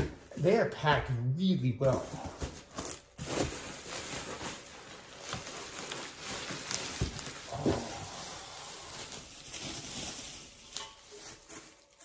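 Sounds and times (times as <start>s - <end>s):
bubble wrap crinkling: 1.8s - 12.0s.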